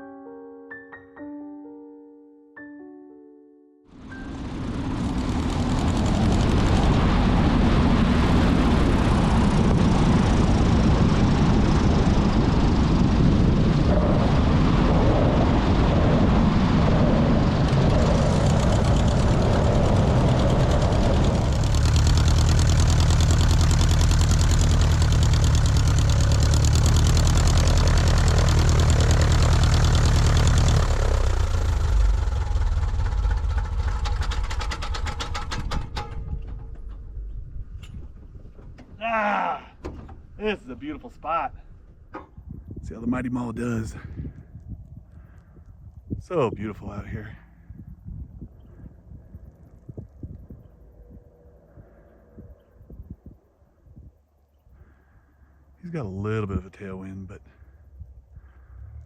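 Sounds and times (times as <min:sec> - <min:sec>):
light plane engine and propeller: 0:03.9 - 0:39.0, 0:39.8 - 0:59.0.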